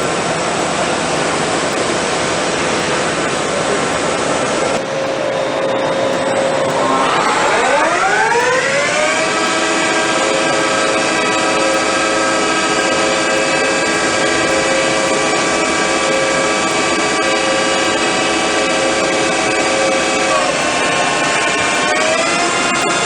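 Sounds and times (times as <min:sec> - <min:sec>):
lathe spindle whine: 0:00.0 - 0:23.0.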